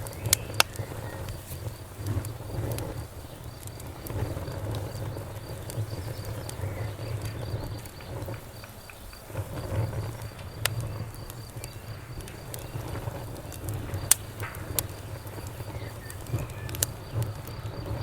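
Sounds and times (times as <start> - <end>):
campfire crackling: 0.0 - 18.0
crickets chirping: 0.0 - 18.0.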